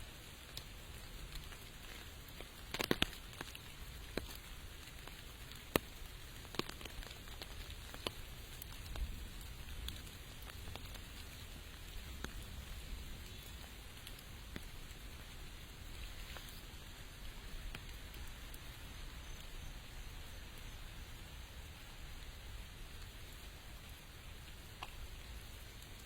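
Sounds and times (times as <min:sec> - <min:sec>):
light rain: 0:00.0 - 0:26.0
raindrops ticking close by: 0:00.0 - 0:26.0.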